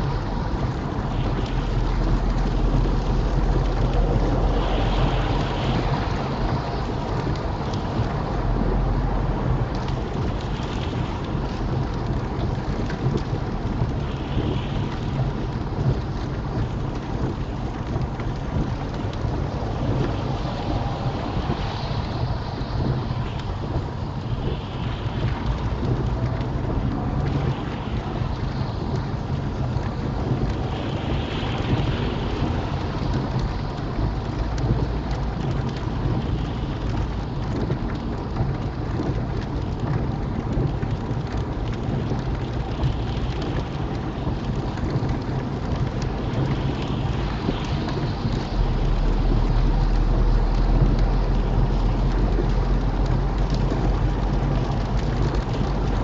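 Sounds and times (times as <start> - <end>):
rain hitting car windscreen: 0.0 - 56.0
tyre and road noise: 0.0 - 56.0.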